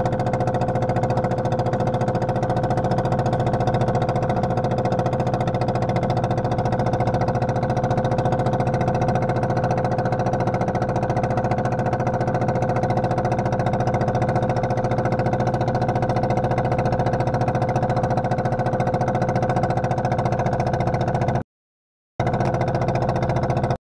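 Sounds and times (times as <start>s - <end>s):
engine idling: 0.0s - 21.4s, 22.2s - 23.8s.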